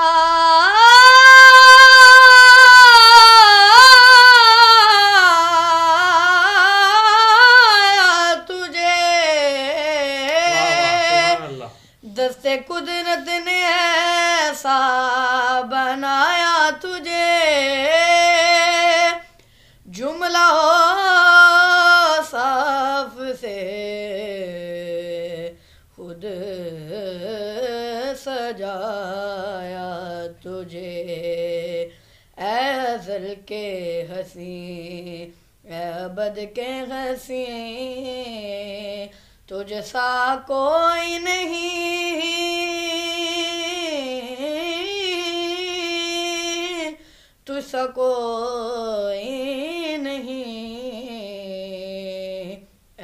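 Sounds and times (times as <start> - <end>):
boy singing unaccompanied: 0.0 - 53.0.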